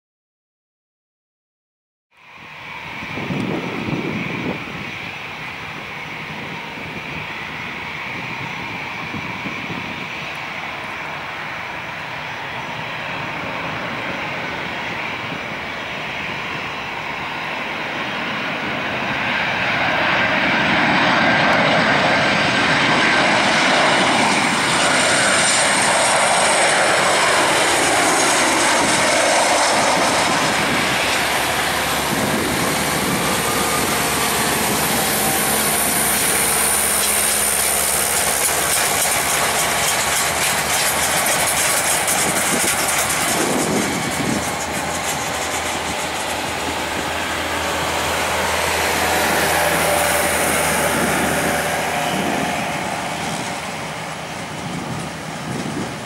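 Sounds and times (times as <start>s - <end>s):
high engine whine: 2.1s - 56.0s
jet engines rushing: 2.2s - 56.0s.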